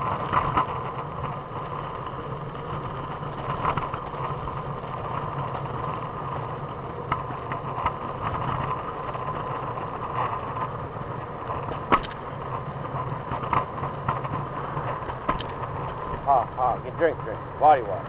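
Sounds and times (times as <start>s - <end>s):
scattered clicks and knocks: 0.0s - 18.0s
scooter wheels rolling on pavement: 0.0s - 18.0s.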